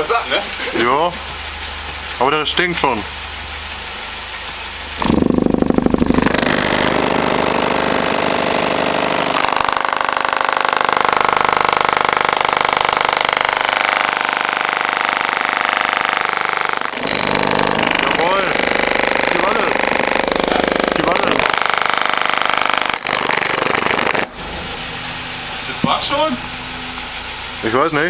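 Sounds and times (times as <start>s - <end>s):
distorted subwoofer buzz: 0.8s - 28.0s.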